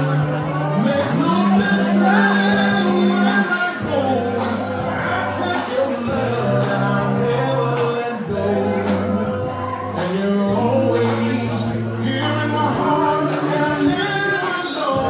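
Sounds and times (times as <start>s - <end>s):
dance music: 0.0s - 15.0s
held bass notes: 0.0s - 15.0s
person singing: 0.0s - 15.0s.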